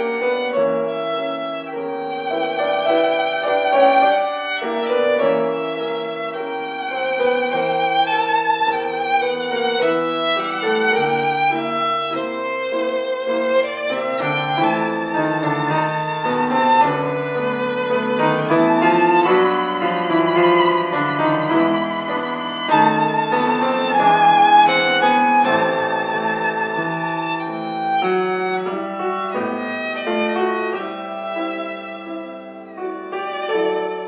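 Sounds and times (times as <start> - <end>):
violin playing bowed melody: 0.0 - 34.0.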